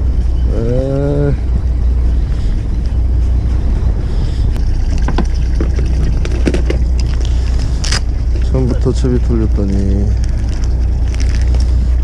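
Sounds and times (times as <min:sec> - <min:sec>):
boat engine rumbling: 0:00.0 - 0:12.0
wind noise on microphone: 0:00.0 - 0:12.0.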